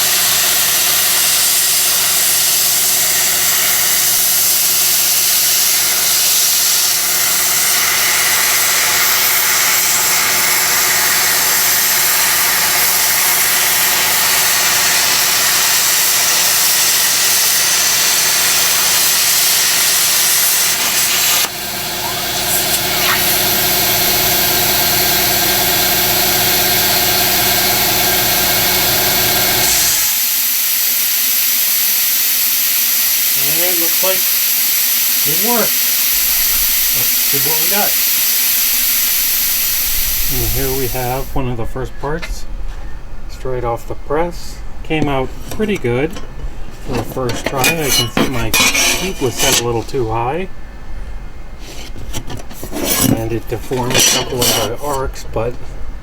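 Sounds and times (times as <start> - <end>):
plasma cutter hissing: 0.0 - 41.4, 47.0 - 50.2, 52.6 - 55.2.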